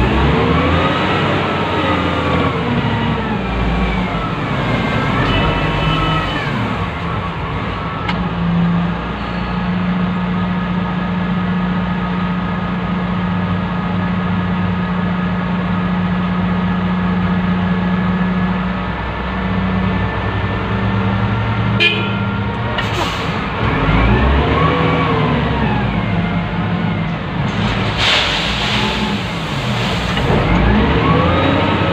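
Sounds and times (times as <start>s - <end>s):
wheel loader diesel engine: 0.0s - 31.9s.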